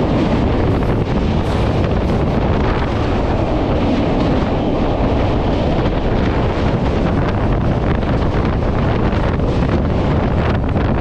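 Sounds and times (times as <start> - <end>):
train wheels rumbling on bridge: 0.0 - 11.0
wind on microphone: 0.0 - 11.0.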